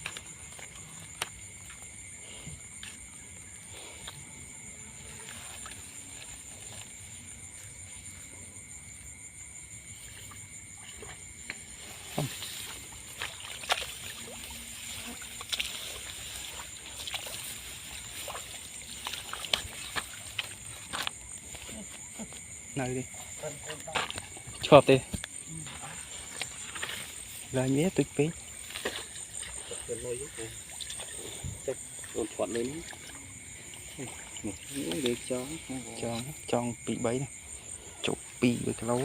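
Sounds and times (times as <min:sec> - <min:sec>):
insects trilling: 0:00.0 - 0:39.0
water splashing and sloshing: 0:00.0 - 0:39.0.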